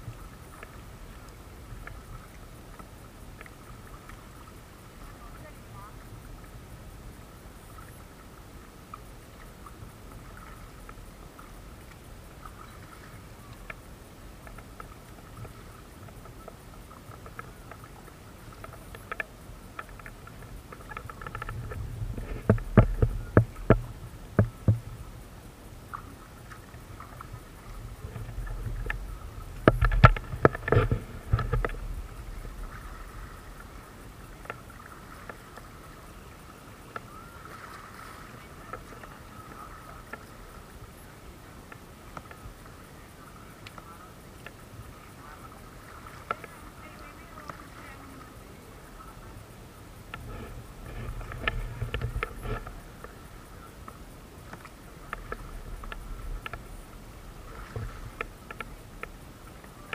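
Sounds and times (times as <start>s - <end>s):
paddles knocking and splashing: 0.0s - 25.2s, 25.8s - 49.1s, 49.9s - 59.9s.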